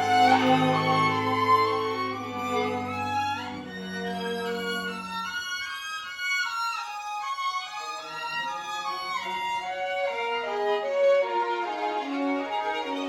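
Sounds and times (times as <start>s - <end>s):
violin melody: 0.0s - 13.0s.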